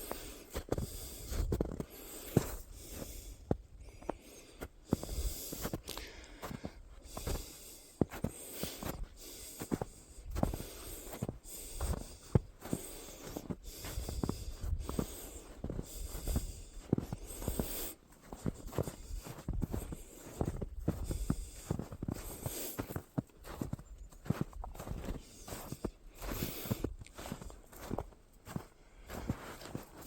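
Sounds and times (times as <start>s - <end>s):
footsteps on packed snow: 0.0s - 30.0s.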